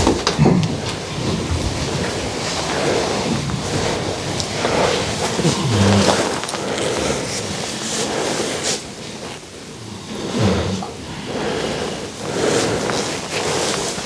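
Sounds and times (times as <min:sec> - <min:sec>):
pigs grunting: 0:00.0 - 0:14.0
rustling and scraping: 0:00.0 - 0:14.0.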